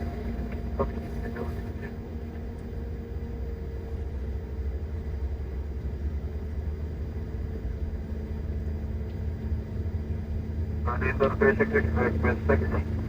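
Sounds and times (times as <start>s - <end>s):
airliner engine running: 0.0s - 13.0s.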